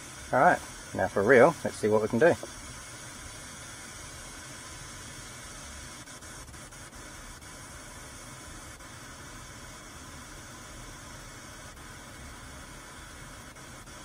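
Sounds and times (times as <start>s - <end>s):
pink noise hiss: 0.0s - 14.0s.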